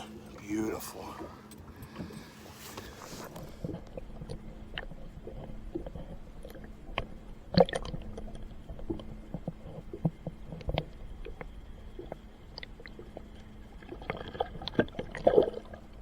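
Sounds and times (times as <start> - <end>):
faint steady hum: 0.0 - 16.0
water lapping against hull: 0.0 - 16.0.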